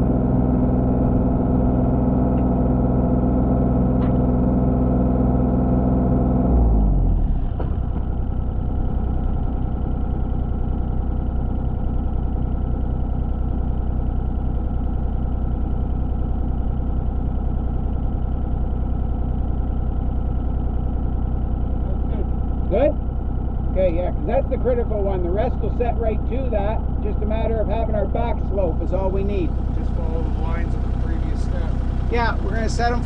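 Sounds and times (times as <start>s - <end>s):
skid steer engine revving and idling: 0.0s - 33.0s.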